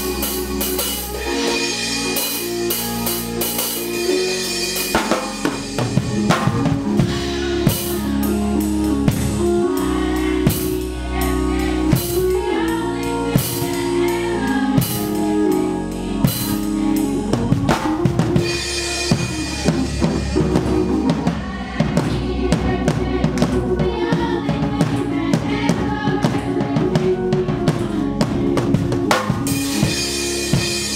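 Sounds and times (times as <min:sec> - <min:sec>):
live band music: 0:00.0 - 0:30.9.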